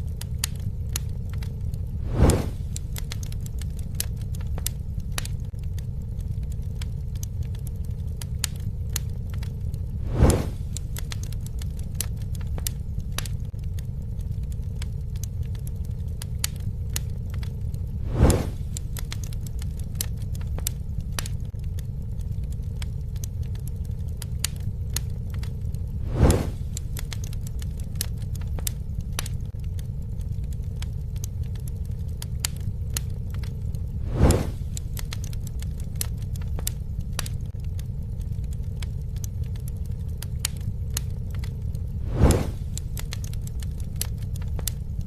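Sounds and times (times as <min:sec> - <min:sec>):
campfire popping and snapping: 0:00.0 - 0:45.0.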